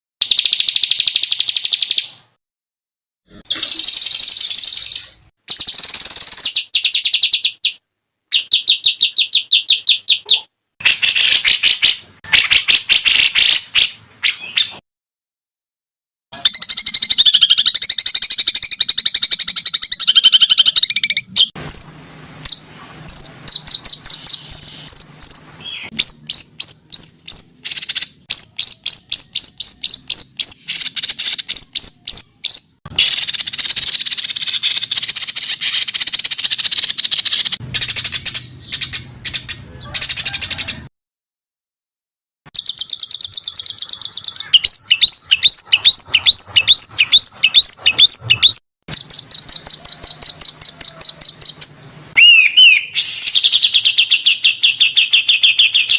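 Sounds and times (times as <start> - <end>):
songbird trills and chirps: 3.6 - 13.6, 16.4 - 40.8, 42.6 - 55.9.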